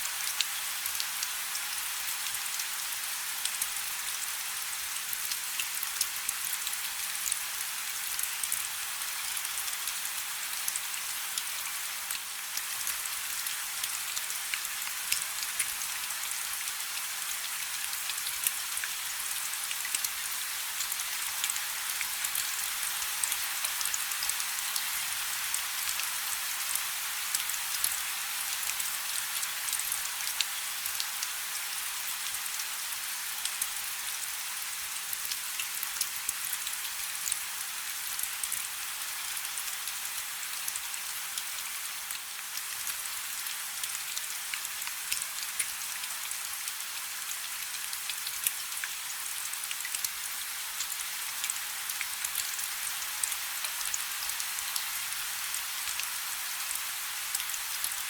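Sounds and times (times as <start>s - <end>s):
rain falling on water: 0.0s - 58.0s.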